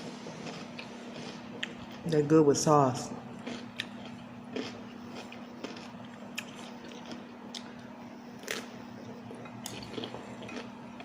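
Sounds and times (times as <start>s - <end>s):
faint steady hum: 0.0s - 11.0s
person chewing crunchy cucumbers: 0.2s - 2.1s, 3.3s - 11.0s.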